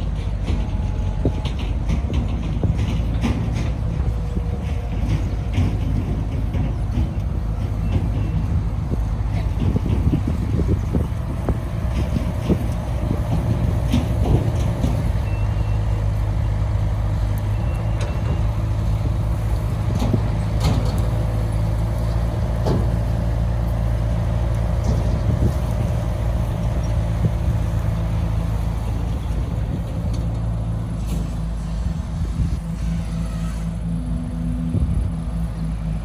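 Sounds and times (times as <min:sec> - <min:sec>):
heavy diesel engine under load: 0:00.0 - 0:36.0.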